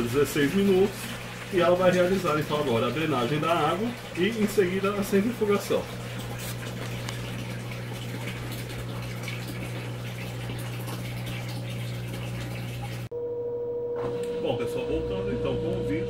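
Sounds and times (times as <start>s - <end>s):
water gurgling in drum: 0.0s - 13.1s
washing machine drain pump humming: 0.0s - 16.0s
washing machine spin whine: 0.0s - 16.0s.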